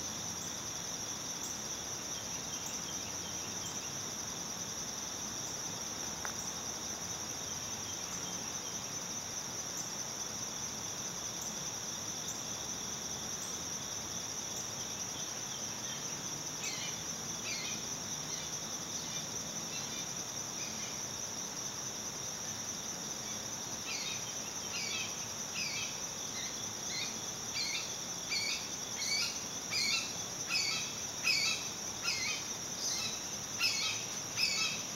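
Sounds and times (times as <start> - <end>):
high-pitched insect chorus: 0.0 - 34.9.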